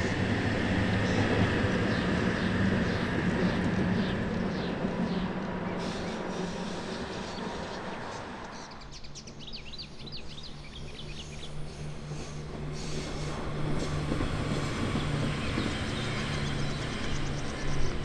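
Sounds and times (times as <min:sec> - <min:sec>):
diesel railcar approaching: 0:00.0 - 0:18.0
train passing on bridge: 0:00.0 - 0:18.0
birds chirping: 0:00.4 - 0:18.0.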